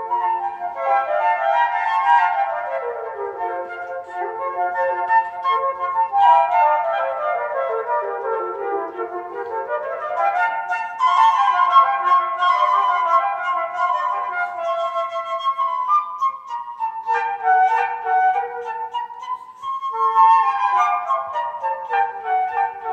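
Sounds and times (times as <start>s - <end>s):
flute duet: 0.0s - 22.9s.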